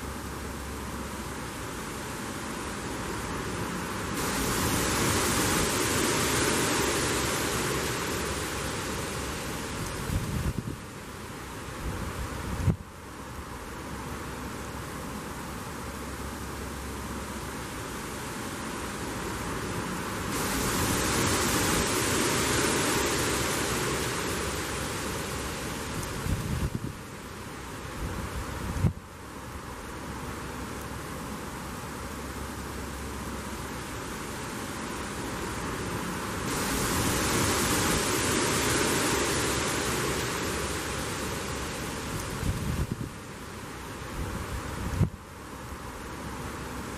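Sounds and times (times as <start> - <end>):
leaves rustling: 0.0 - 46.9
wind gusting through trees: 0.0 - 46.9.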